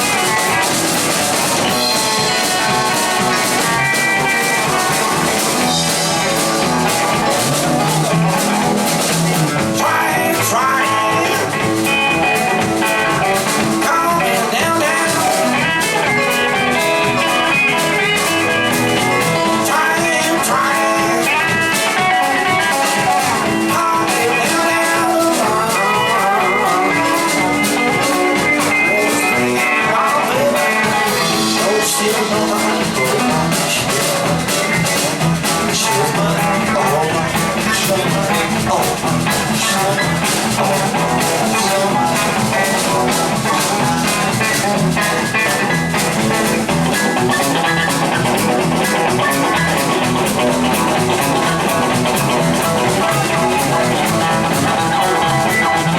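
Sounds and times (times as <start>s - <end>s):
blues-rock band playing: 0.0s - 55.9s
pitch-bending guitar lines: 0.0s - 55.9s.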